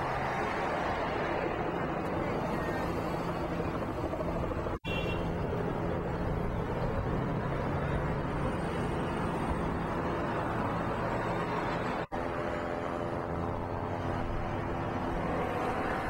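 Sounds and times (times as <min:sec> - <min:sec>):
vehicle noise with low hum: 0:00.0 - 0:16.0.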